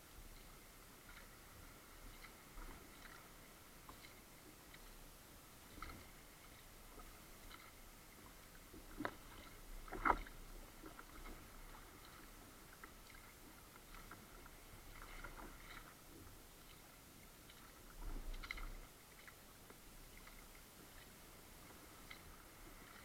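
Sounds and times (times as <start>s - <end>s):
paddle dipping and dripping: 0.1s - 23.0s.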